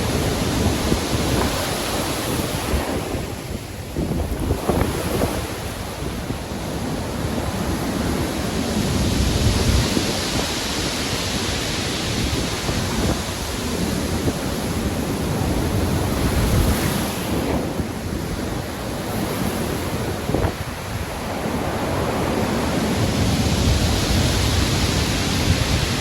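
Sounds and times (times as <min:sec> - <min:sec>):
heavy surf waves breaking: 0:00.0 - 0:26.0
wind: 0:00.0 - 0:26.0.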